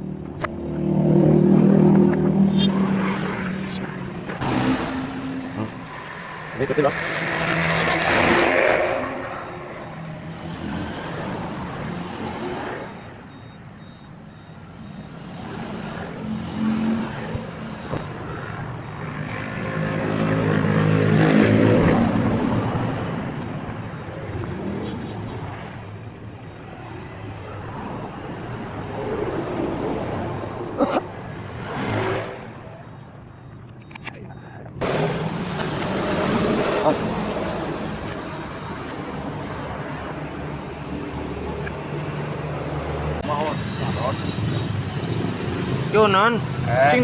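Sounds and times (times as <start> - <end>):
vehicles passing by: 0.0 - 47.0.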